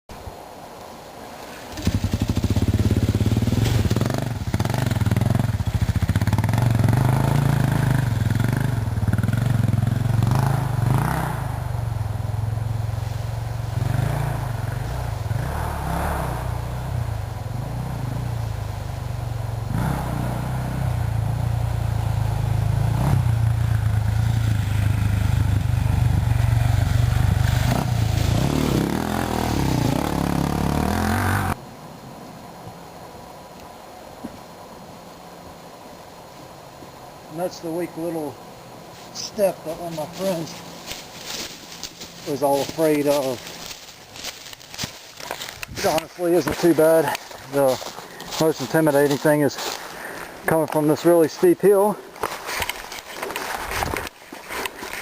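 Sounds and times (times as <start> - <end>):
off-road vehicle engine under load: 1.7 - 31.6, 39.2 - 55.0.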